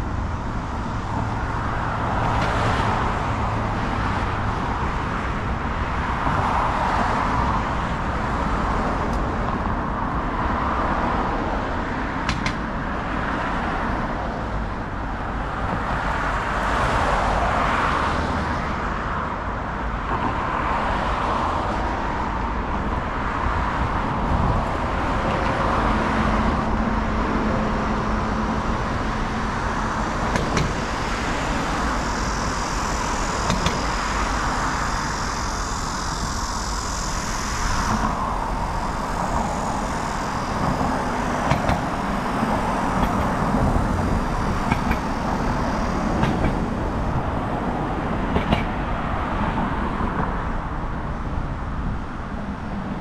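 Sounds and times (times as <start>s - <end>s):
cars passing: 0.0s - 53.0s.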